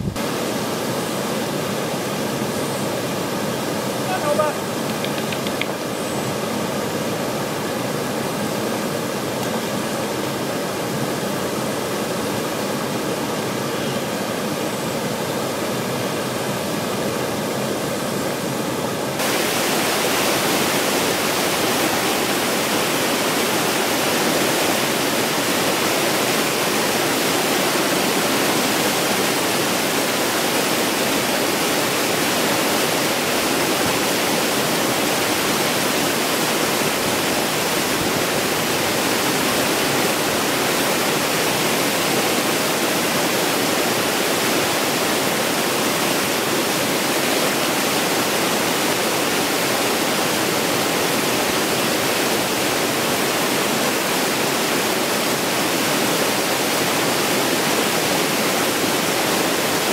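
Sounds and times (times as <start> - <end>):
waterfall and rapids rushing: 0.0 - 59.9.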